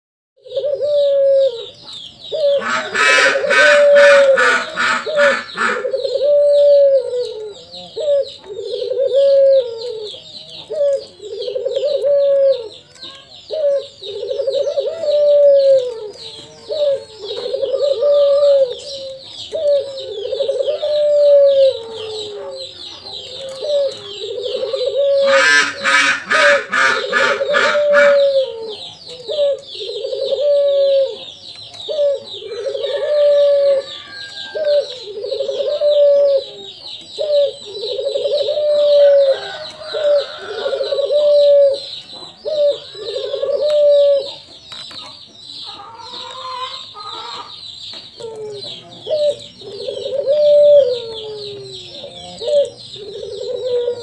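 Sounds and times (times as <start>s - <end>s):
dove cooing: 0.4s - 54.0s.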